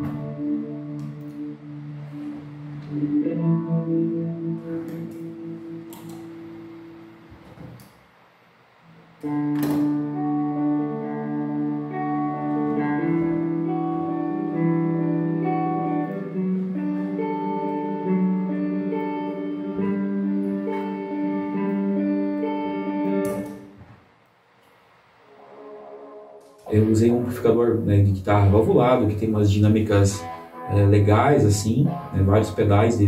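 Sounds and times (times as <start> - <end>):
electric guitar sustained chords: 0.0 - 7.9, 8.8 - 24.0, 25.2 - 33.0.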